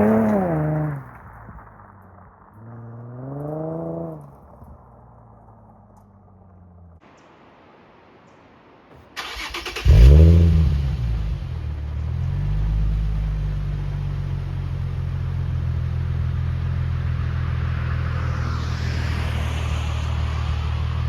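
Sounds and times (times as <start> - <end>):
car engine revving and idling: 0.0 - 6.6, 9.3 - 21.0.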